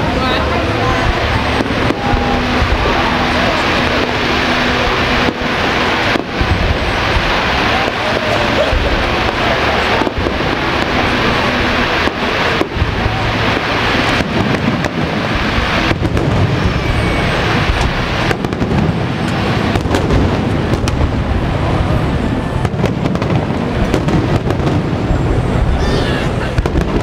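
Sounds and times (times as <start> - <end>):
fireworks bursting and crackling: 0.0 - 27.0.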